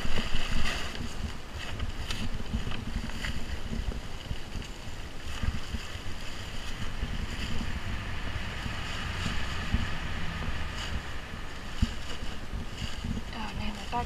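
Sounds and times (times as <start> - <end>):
plastic sheeting rustling: 0.0 - 14.0
wind rumble on microphone: 0.0 - 14.0.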